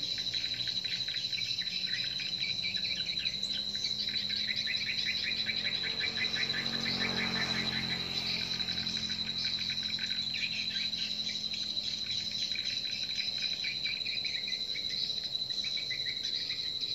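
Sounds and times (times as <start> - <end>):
swiftlets twittering chirps: 0.0 - 16.9.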